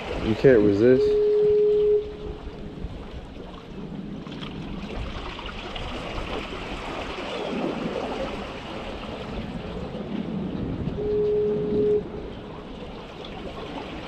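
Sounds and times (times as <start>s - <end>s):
seawater washing among rocks: 0.0s - 14.0s.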